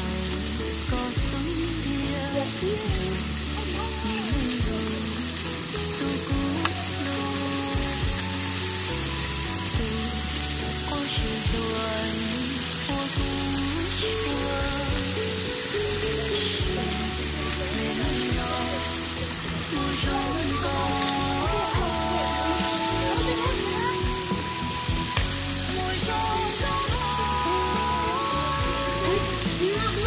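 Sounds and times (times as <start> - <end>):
background music: 0.0 - 30.0
meat sizzling in oil: 0.0 - 30.0.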